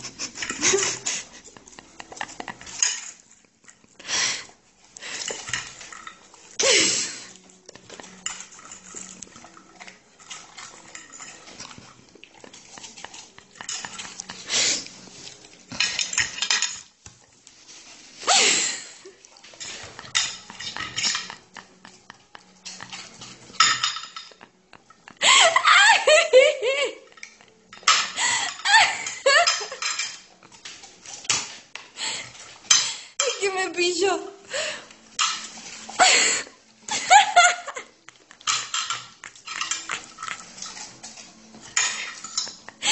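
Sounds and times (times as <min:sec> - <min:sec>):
cutlery and dishes clinking: 0:00.0 - 0:04.4, 0:05.0 - 0:18.2, 0:19.2 - 0:25.1, 0:27.0 - 0:33.6, 0:34.9 - 0:42.9.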